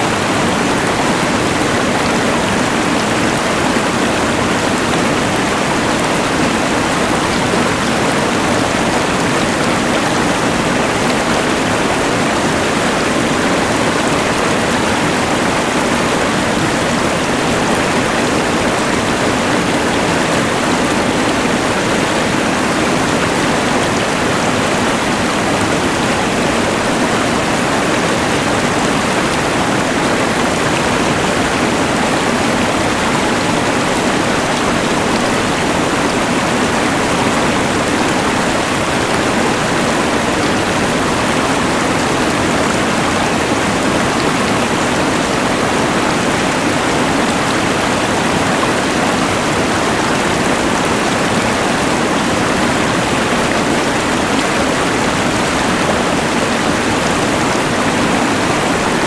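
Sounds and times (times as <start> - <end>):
rushing river: 0.0 - 59.0.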